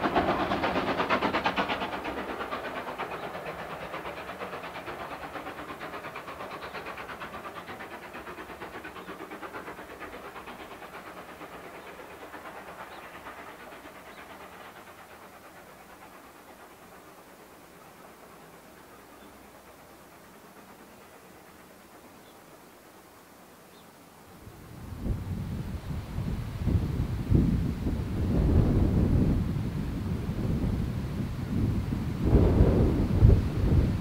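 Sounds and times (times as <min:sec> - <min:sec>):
steam locomotive exhaust beating: 0:00.0 - 0:34.0.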